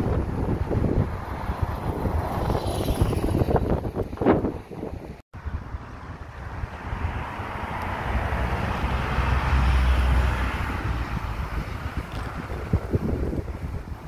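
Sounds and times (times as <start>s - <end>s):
car passing by: 0.4s - 3.9s, 5.6s - 13.5s.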